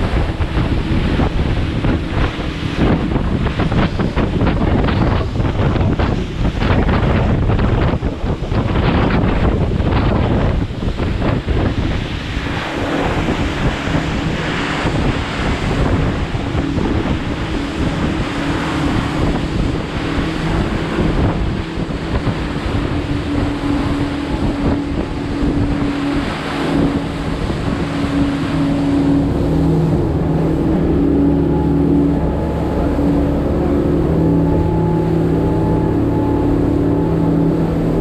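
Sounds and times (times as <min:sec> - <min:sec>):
boat engine droning: 0:00.0 - 0:38.0
rushing wind and water: 0:00.0 - 0:38.0
wind buffeting microphone: 0:00.0 - 0:38.0.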